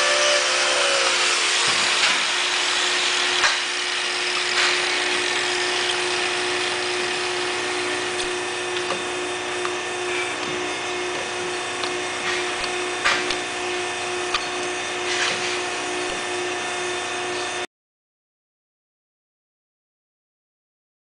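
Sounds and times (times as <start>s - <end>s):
electric grinder whining: 0.0s - 17.5s.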